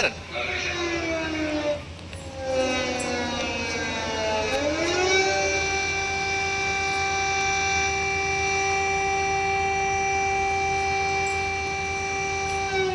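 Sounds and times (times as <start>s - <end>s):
air raid siren wailing: 0.0s - 12.9s.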